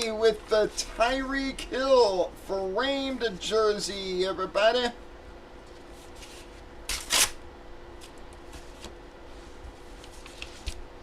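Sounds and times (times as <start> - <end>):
steady faint hum: 0.0 - 11.0.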